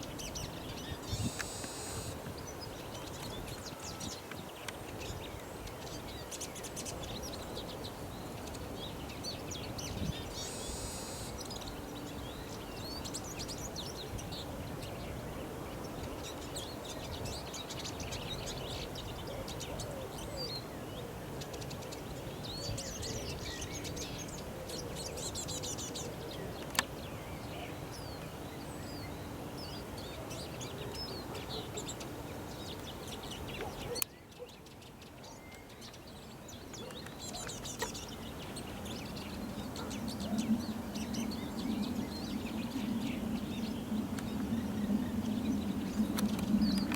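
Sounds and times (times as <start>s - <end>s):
bird twittering and trilling: 0.0s - 15.0s, 21.4s - 46.9s.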